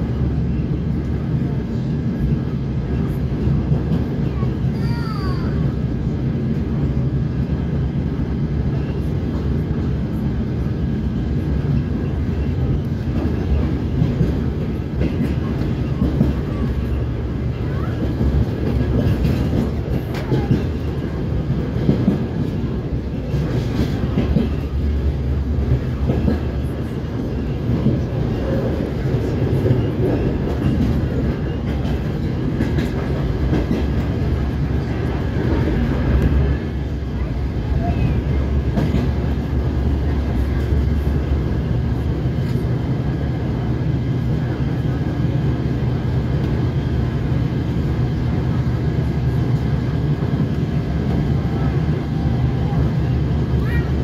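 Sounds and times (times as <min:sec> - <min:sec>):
train rumbling from inside carriage: 0:00.0 - 0:54.0.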